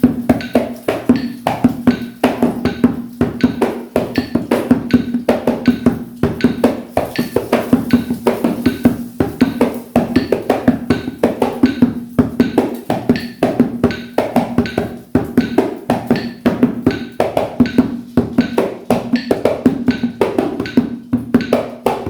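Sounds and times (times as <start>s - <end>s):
hand drumming on a pot: 0.0s - 22.0s.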